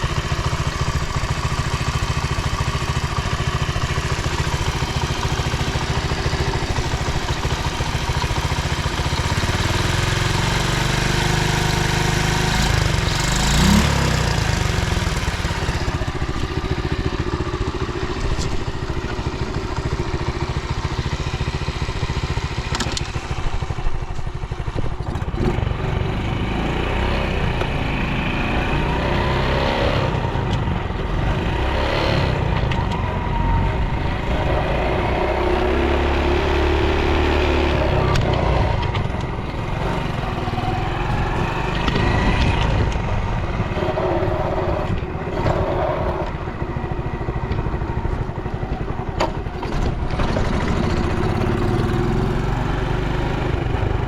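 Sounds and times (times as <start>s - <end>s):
engine revving: 0.0s - 20.2s, 25.1s - 54.0s
small motorcycle engine running: 0.0s - 54.0s.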